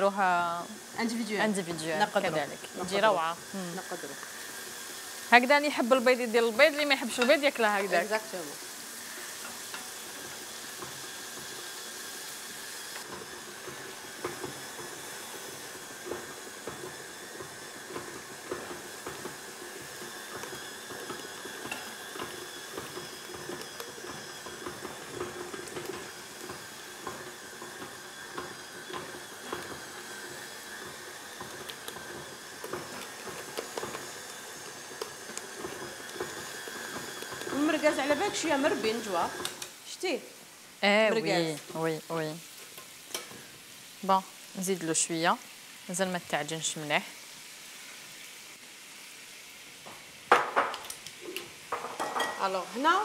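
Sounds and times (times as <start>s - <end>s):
sausages sizzling in a frying pan: 0.0s - 53.0s.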